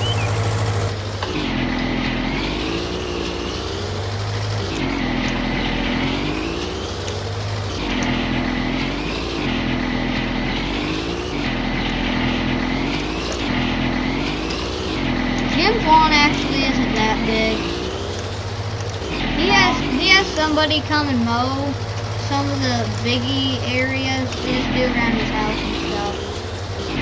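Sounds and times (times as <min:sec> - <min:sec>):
garden tractor engine mowing: 0:00.0 - 0:27.0.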